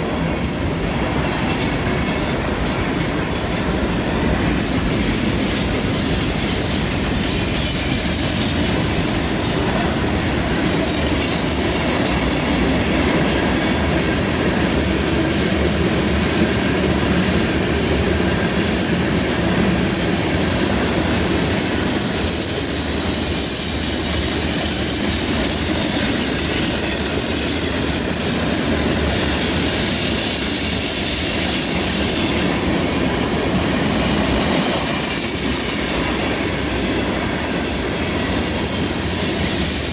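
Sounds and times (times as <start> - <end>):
train rumble: 0.0 - 39.9
train wheels squealing on rails: 0.0 - 39.9.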